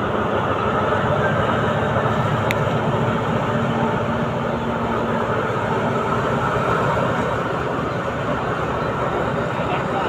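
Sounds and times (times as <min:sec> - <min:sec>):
diesel locomotive engine droning: 0:00.0 - 0:10.0.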